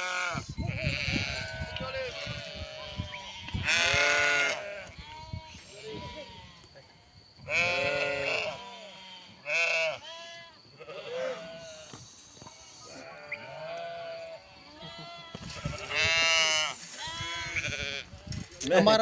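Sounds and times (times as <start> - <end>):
sheep bleating: 0.0 - 6.7, 7.5 - 11.9, 12.8 - 18.2.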